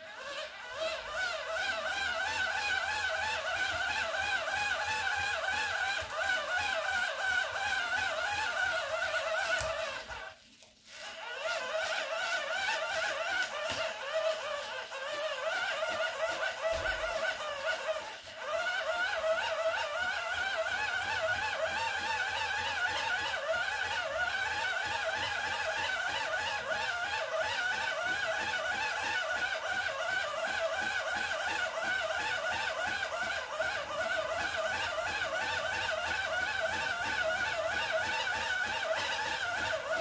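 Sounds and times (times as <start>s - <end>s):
hand-crank dynamo whirring: 0.0s - 40.0s.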